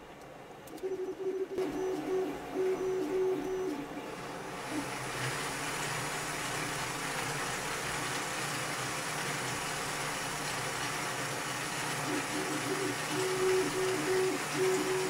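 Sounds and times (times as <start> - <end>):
model engine mechanical whir: 0.7 - 15.0.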